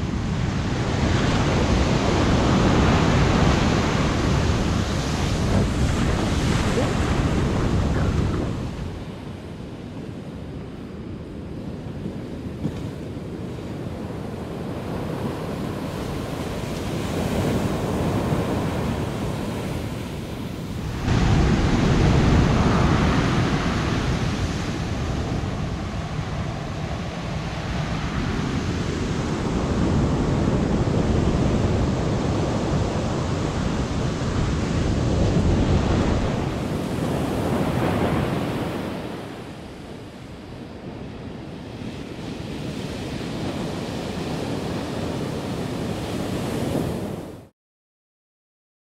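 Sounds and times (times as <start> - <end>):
surf breaking on a beach: 0.0 - 47.5
wind on microphone: 0.0 - 47.5.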